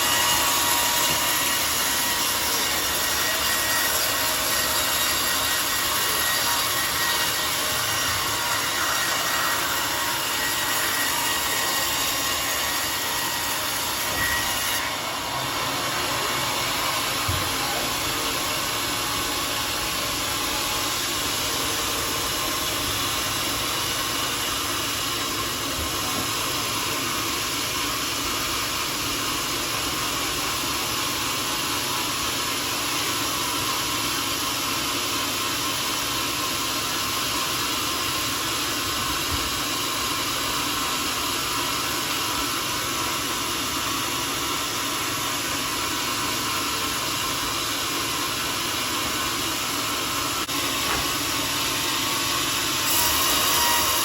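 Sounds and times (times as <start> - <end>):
sawmill cutting log: 0.0 - 54.0.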